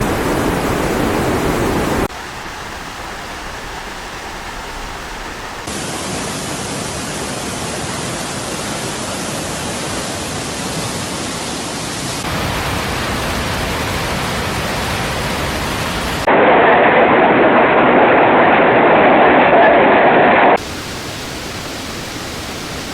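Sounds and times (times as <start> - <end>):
rushing floodwater: 0.0 - 16.3, 20.6 - 22.9.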